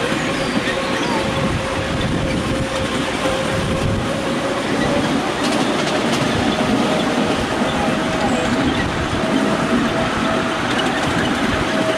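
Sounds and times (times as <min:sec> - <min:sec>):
wheels rumbling on rail: 0:00.0 - 0:11.9.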